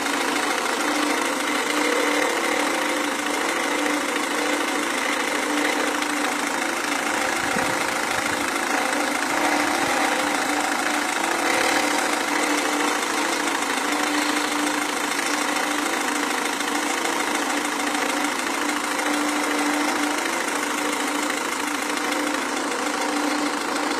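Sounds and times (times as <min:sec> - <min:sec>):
diesel engine idling with clatter: 0:00.0 - 0:23.9.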